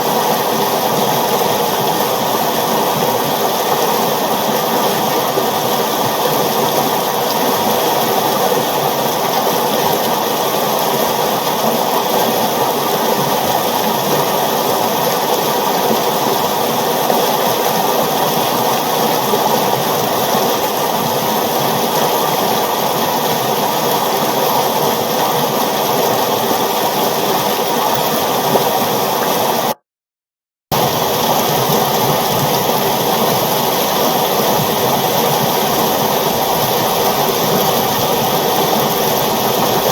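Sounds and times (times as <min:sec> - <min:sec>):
river water rushing: 0:00.0 - 0:29.8, 0:30.8 - 0:39.9.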